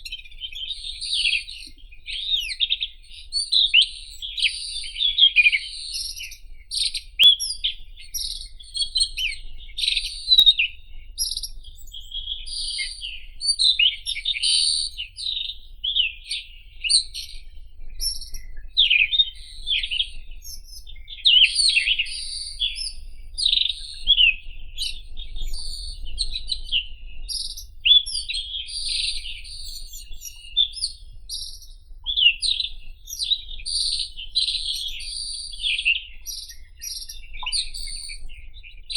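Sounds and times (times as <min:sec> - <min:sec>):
robin singing: 0:00.0 - 0:38.9.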